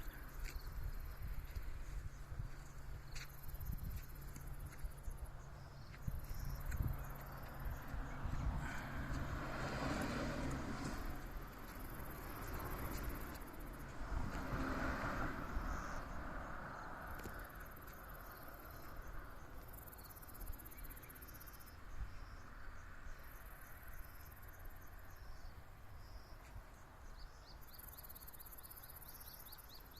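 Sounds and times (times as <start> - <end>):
insects trilling: 0.0 - 13.9, 14.8 - 29.9.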